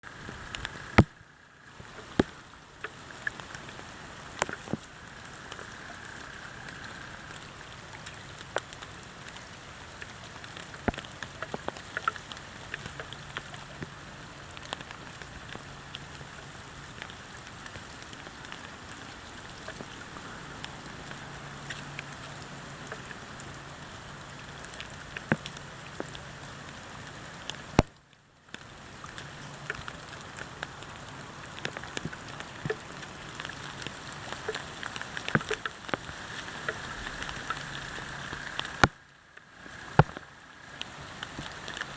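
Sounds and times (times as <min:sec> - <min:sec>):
steady rain falling: 0:00.0 - 0:41.9
sharp raindrop clicks: 0:00.1 - 0:41.9.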